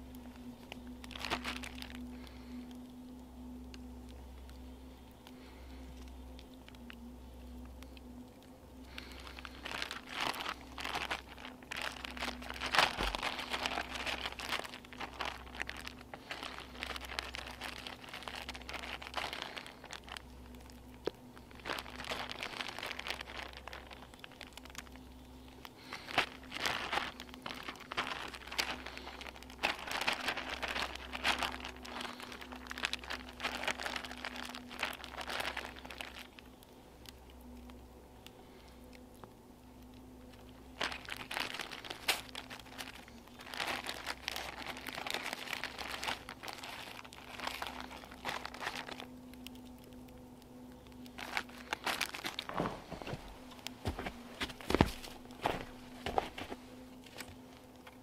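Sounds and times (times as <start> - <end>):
packaging crinkling and tearing: 0.0 - 39.0, 39.7 - 58.0.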